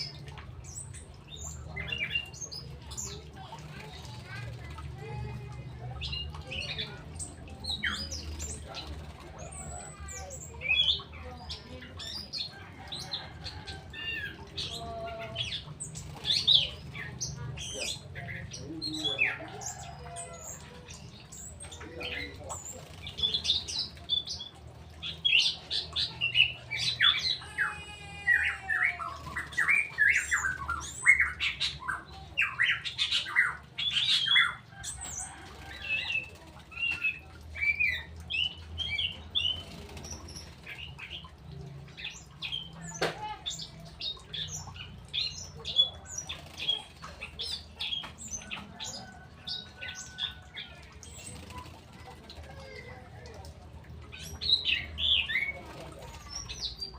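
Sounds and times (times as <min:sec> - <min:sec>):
bird calling and singing: 0:00.0 - 0:56.9.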